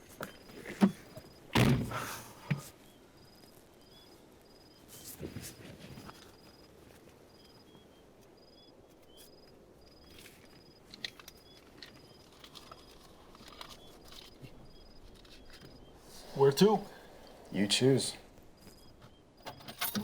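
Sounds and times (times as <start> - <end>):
crickets chirping: 0.1 - 20.0.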